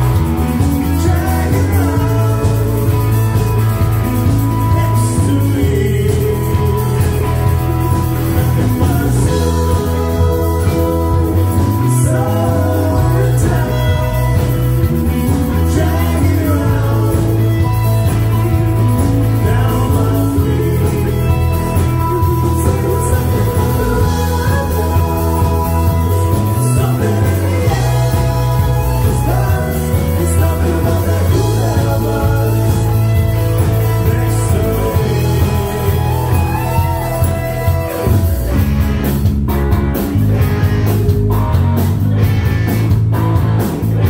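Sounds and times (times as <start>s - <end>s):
two people singing: 0.0s - 38.5s
live rock band playing: 0.0s - 44.0s.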